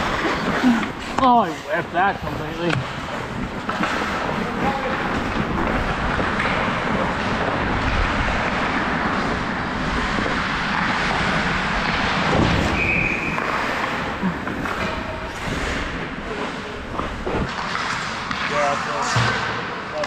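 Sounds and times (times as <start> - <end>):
ice skate blades scraping: 0.0 - 19.4.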